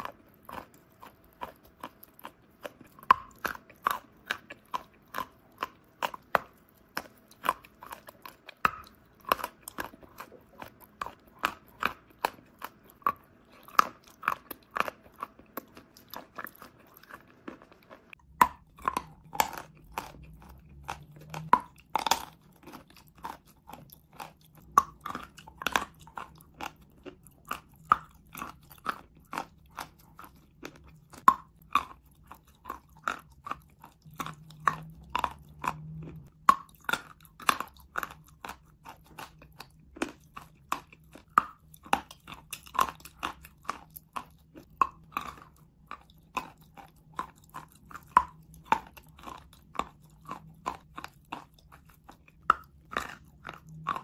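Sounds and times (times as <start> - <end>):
chalk crunching while chewed: 0.0 - 54.0.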